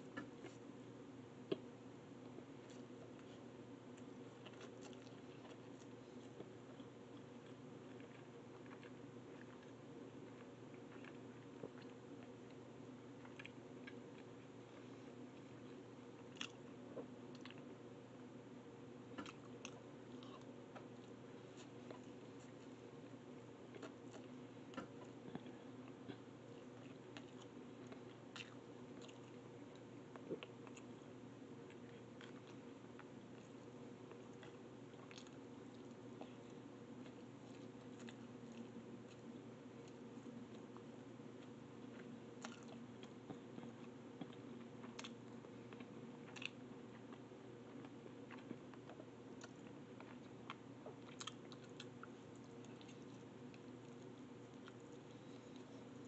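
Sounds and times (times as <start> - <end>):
steady low hum: 0.0 - 56.0
chewing noodles: 4.0 - 17.7, 19.2 - 31.0, 31.6 - 56.0.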